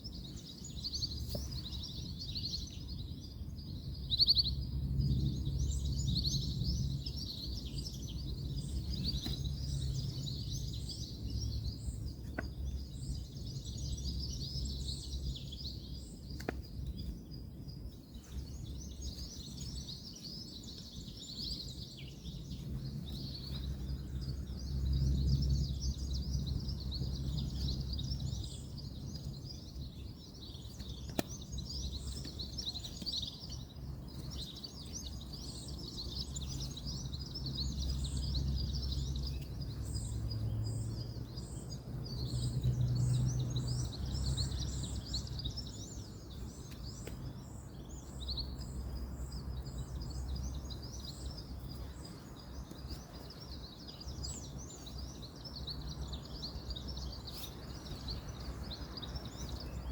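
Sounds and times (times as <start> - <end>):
birds chirping: 0.0 - 59.9
distant road traffic rumble: 0.0 - 59.9.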